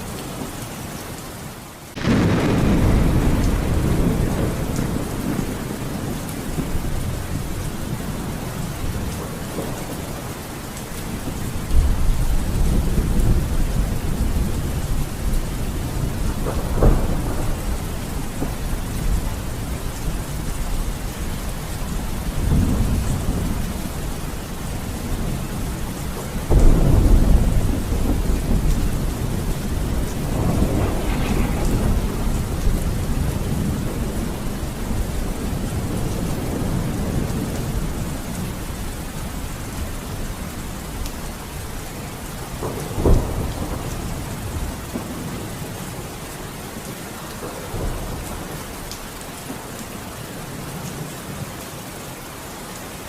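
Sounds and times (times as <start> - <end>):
steady rain: 0.0 - 53.0
thunder rumbling: 1.9 - 46.2, 47.4 - 49.0.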